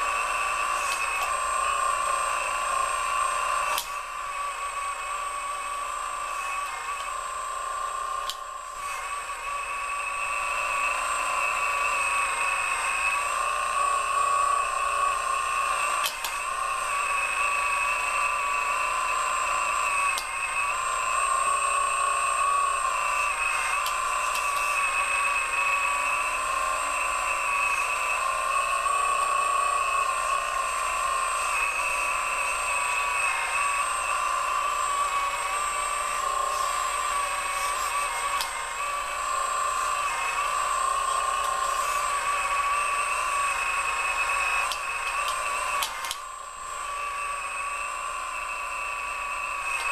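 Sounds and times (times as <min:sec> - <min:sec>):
model excavator electric whine: 0:00.0 - 0:49.9.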